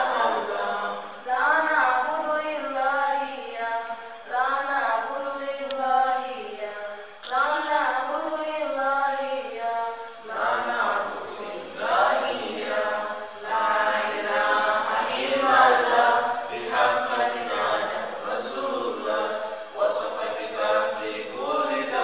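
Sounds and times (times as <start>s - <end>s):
melodic chanting: 0.0s - 22.0s.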